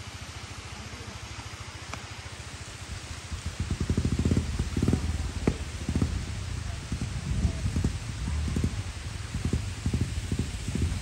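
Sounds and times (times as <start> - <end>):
falling water hissing: 0.0 - 11.0
vehicle engine running: 0.0 - 11.0.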